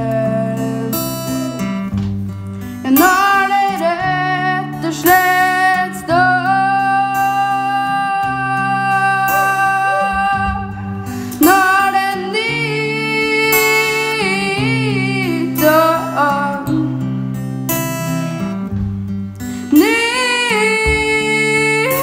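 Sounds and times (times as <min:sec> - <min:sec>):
boy singing: 0:00.0 - 0:01.6, 0:02.8 - 0:17.0, 0:19.7 - 0:22.0
acoustic guitar strumming: 0:00.0 - 0:22.0.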